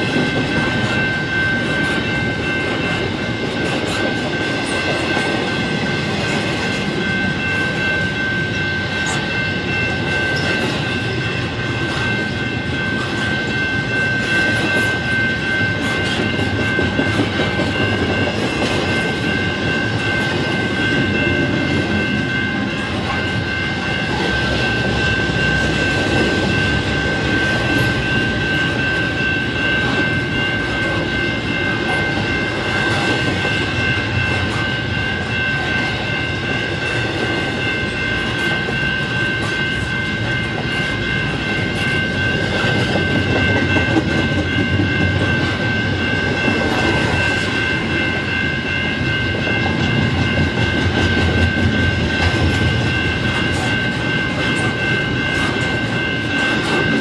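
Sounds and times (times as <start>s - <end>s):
crossing bell ringing: 0.0s - 57.0s
train wheels rumbling on rail: 0.0s - 57.0s.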